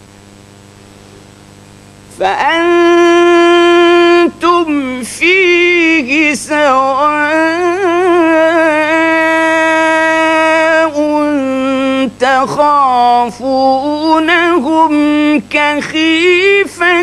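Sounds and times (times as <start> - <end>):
man reciting melodically: 2.1 - 17.0.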